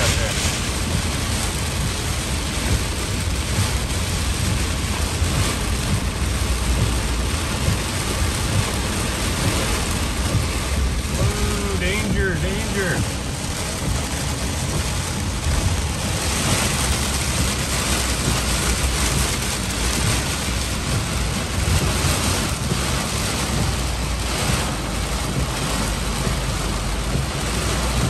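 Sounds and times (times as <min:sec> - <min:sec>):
heavy rain beating on truck: 0:00.0 - 0:28.0
road and engine drone: 0:00.0 - 0:28.0.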